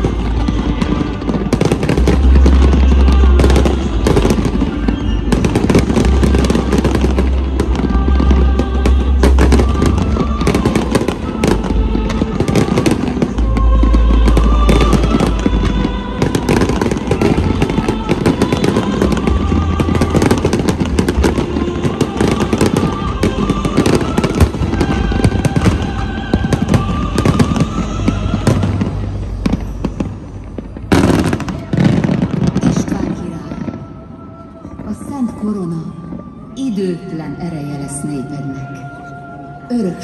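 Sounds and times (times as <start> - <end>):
fireworks bangs and crackles: 0.0 - 36.6
music playing: 0.0 - 40.0.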